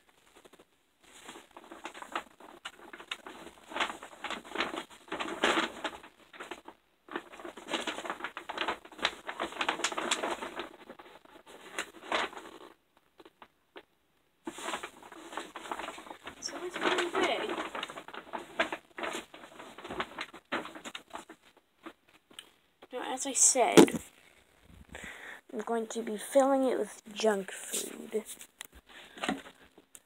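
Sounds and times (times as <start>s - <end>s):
gift bag rustling and crinkling: 0.1s - 13.4s, 14.5s - 22.3s, 23.0s - 26.2s, 27.2s - 30.0s.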